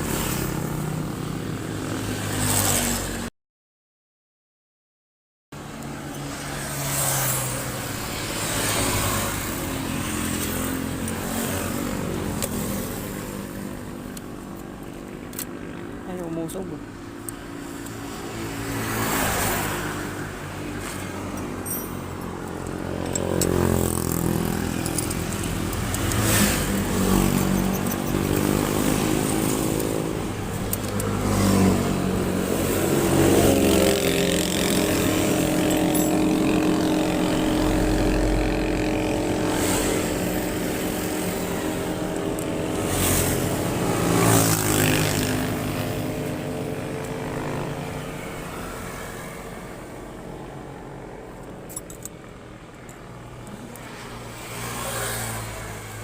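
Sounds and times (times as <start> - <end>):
motorcycles passing: 0.0 - 3.3, 5.6 - 56.0
vehicles passing by on road: 0.0 - 3.3, 5.6 - 56.0.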